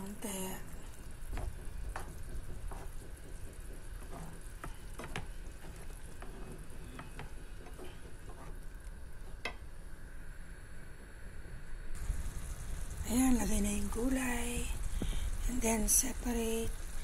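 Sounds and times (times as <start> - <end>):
food sizzling in pan: 0.0 - 9.4, 12.0 - 17.0.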